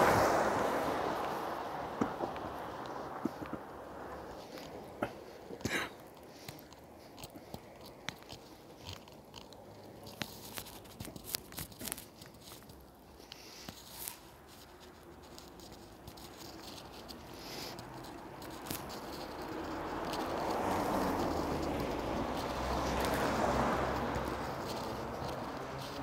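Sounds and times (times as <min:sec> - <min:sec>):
car approaching: 0:00.0 - 0:26.0
footsteps on pavement: 0:00.0 - 0:26.0.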